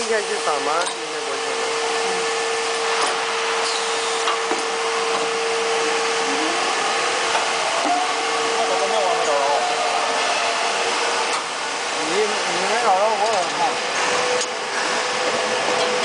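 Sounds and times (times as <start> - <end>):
machinery whirring: 0.0 - 16.0
steady hum: 0.0 - 16.0.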